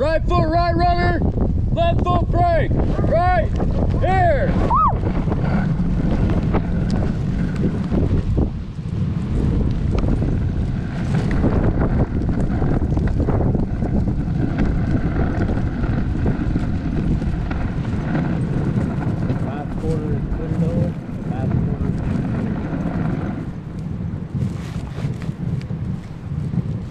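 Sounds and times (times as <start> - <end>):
sled runners scraping on snow: 0.0 - 26.9
wind buffeting microphone: 0.0 - 26.9.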